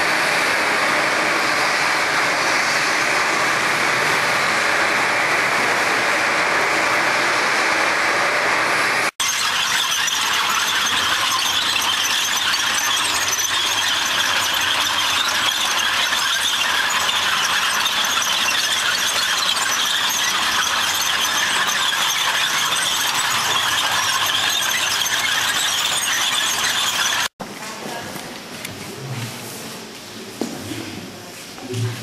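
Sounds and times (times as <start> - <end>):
steel tank tracks squealing: 0.1 - 27.4.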